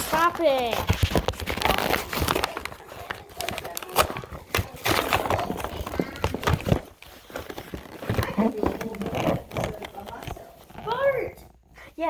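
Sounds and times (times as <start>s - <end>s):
toy packaging clicks and knocks: 0.0s - 11.1s
packaging rustling: 0.0s - 11.2s.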